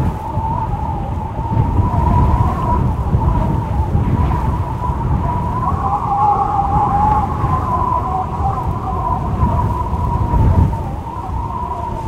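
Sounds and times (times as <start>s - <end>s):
wind howling: 0.0s - 12.0s.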